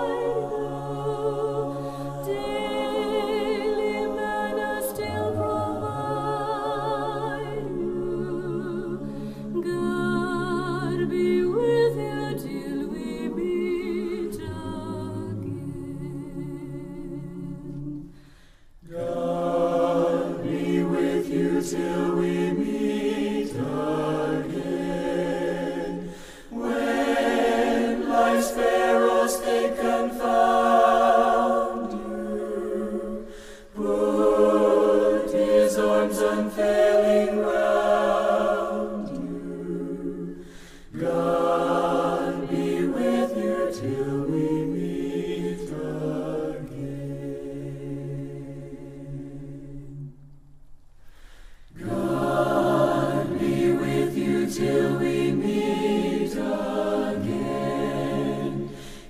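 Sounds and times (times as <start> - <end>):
group singing a hymn unaccompanied: 0.0 - 50.3, 51.6 - 59.0.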